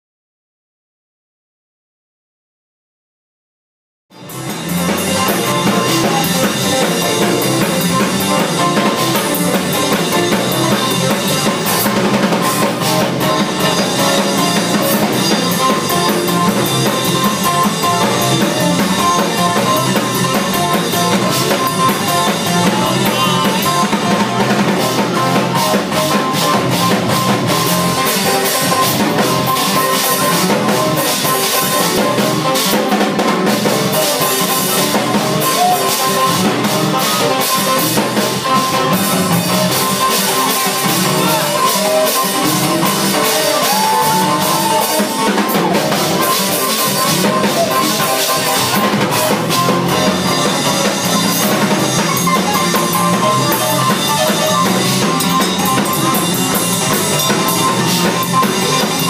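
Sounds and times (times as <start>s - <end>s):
fast gospel music with drum kit: 4.1s - 59.0s.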